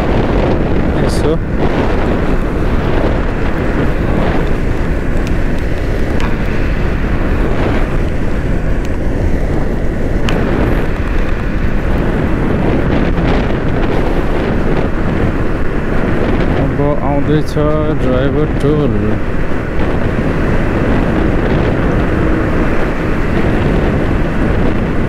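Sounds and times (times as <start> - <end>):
motorcycle engine and road noise: 0.0 - 25.0
wind buffeting microphone: 0.0 - 25.0.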